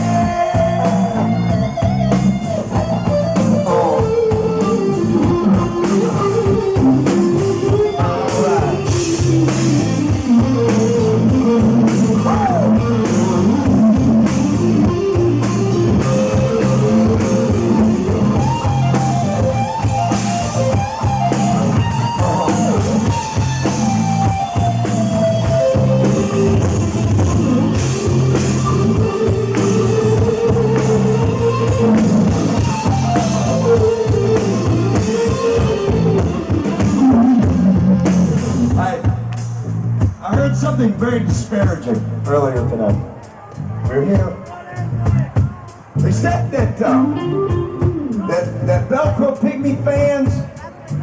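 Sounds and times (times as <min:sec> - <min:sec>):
electric guitar: 0:00.0 - 0:40.2, 0:45.3 - 0:49.2
drum kit: 0:00.0 - 0:51.0.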